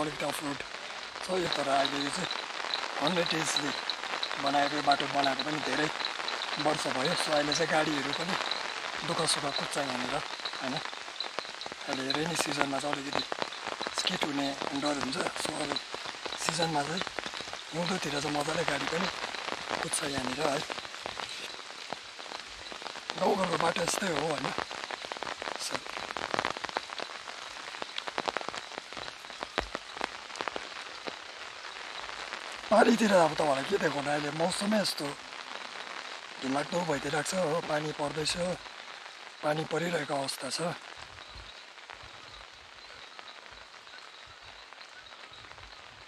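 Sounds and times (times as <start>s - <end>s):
raindrops tapping an umbrella: 0.0s - 46.0s
steady rain: 0.0s - 46.0s.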